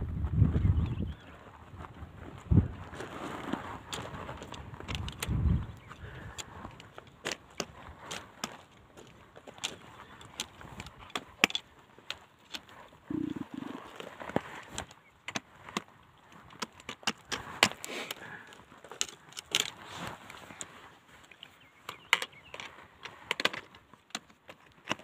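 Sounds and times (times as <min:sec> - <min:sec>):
footsteps on loose gravel: 0:00.0 - 0:24.0.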